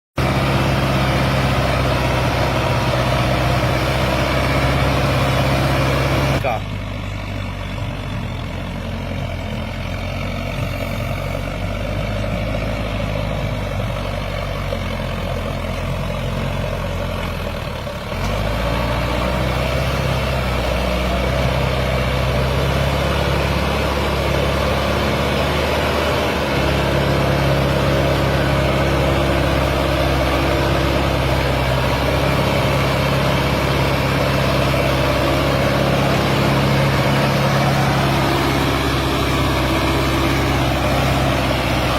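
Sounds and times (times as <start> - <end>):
tractor diesel engine under load: 0.2 - 41.9.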